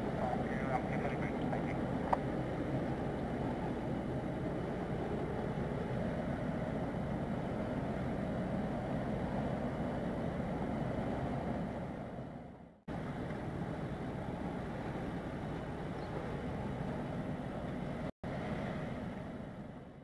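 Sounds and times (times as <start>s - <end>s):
ship engines rumbling: 0.0s - 20.0s.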